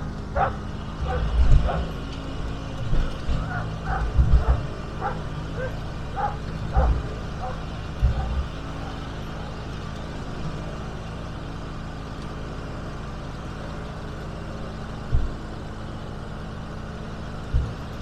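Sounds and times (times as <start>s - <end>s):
garden tractor engine idling: 0.0s - 18.0s.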